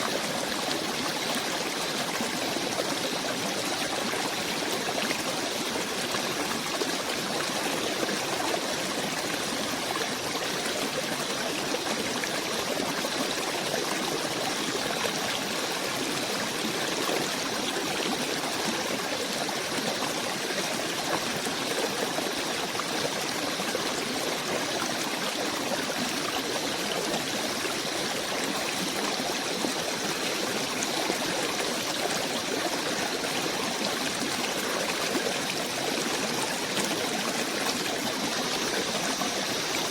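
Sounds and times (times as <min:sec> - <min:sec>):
small stream running: 0:00.0 - 0:39.9.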